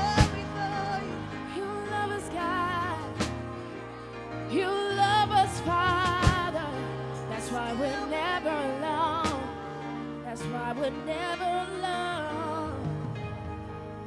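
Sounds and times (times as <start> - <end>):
woman singing with vibrato: 0.0 - 3.4, 4.5 - 13.0
keyboard and bass notes: 0.0 - 14.0.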